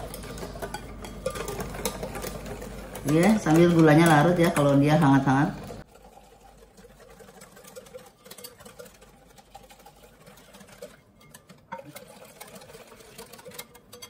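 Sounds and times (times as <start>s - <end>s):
whisk clinking against glass bowl: 0.0s - 14.0s.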